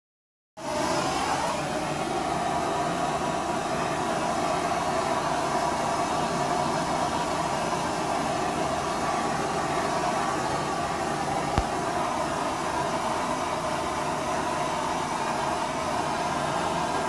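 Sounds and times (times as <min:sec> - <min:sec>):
blowtorch hissing: 0:00.6 - 0:17.0.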